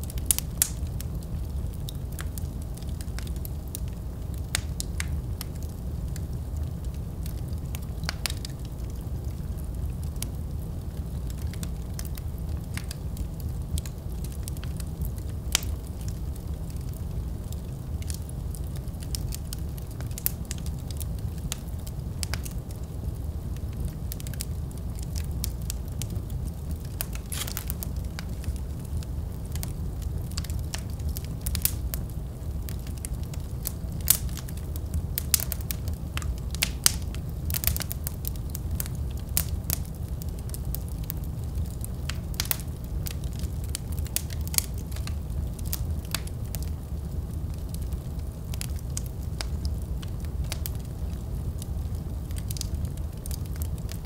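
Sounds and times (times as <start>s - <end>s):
fire flames rumbling: 0.0s - 54.0s
logs crackling and popping: 0.0s - 54.0s.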